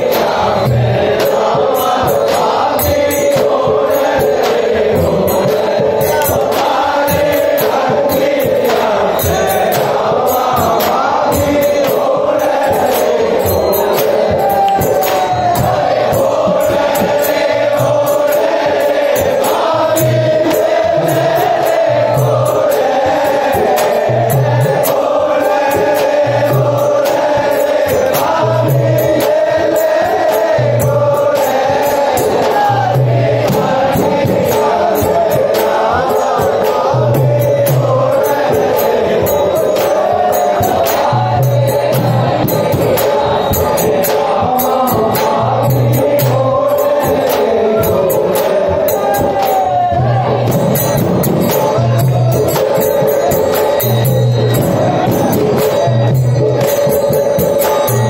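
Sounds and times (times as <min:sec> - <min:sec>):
frame drums beating: 0:00.0 - 0:58.0
men singing into a microphone: 0:00.0 - 0:58.0.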